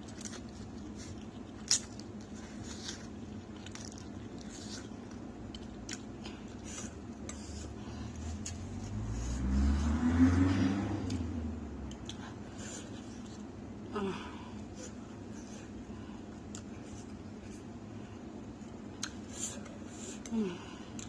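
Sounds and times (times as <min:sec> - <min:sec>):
person chewing noodles: 0:00.0 - 0:10.2, 0:11.1 - 0:13.5, 0:14.6 - 0:21.0.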